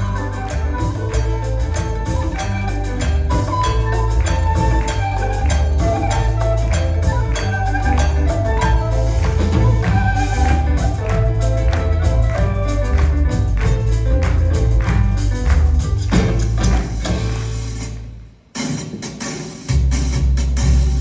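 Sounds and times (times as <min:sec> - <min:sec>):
plucked melody: 0:00.0 - 0:17.7
heavy bass line: 0:00.0 - 0:18.2
percussion strikes: 0:00.0 - 0:21.0.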